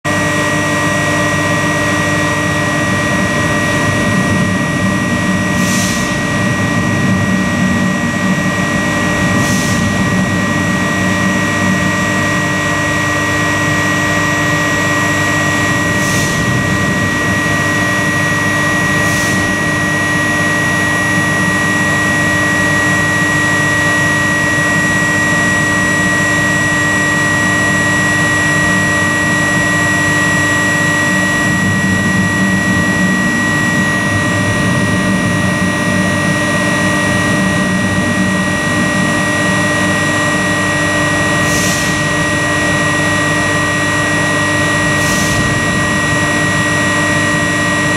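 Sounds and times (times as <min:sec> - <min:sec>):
high electrical whine: 0:00.1 - 0:47.9
power converters humming: 0:00.1 - 0:47.9.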